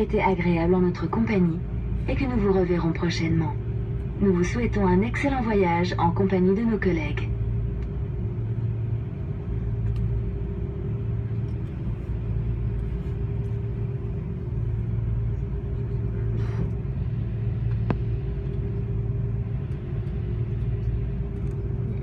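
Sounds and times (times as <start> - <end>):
airplane cabin rumble and hum: 0.0 - 22.0
constant mid-pitched tone: 0.0 - 22.0.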